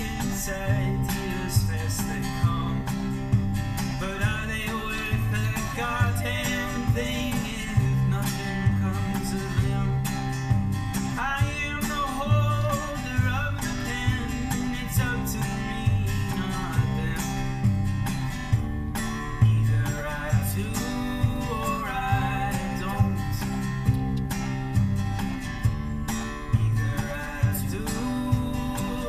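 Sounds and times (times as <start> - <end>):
country music with guitar: 0.0 - 29.0.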